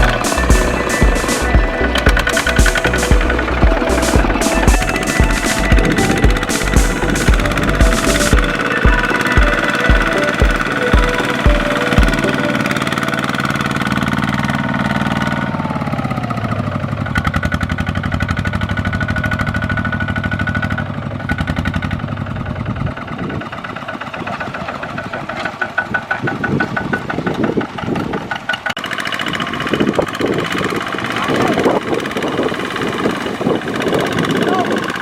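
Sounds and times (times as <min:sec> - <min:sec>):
tractor engine working in mud: 0:00.0 - 0:35.0.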